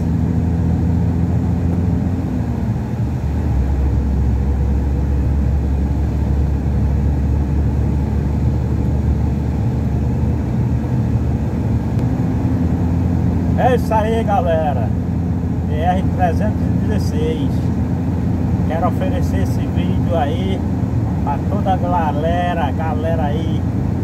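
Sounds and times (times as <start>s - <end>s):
road noise: 0.0s - 24.0s
truck diesel engine drone: 0.0s - 24.0s.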